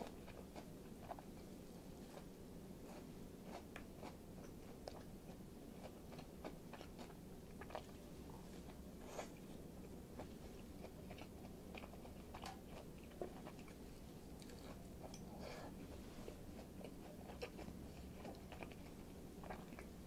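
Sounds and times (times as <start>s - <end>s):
faint crunches of chewing: 0.0s - 9.5s, 10.2s - 20.0s.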